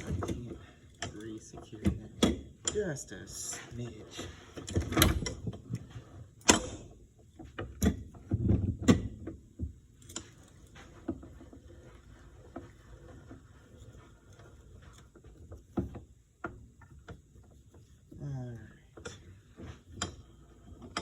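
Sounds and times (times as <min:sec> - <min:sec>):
hand tools and metal parts clanking: 0:00.0 - 0:21.0.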